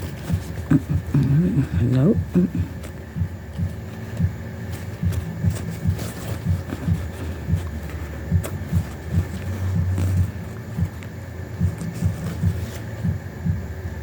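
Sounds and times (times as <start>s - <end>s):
low muffled thumps: 2.2s - 13.8s.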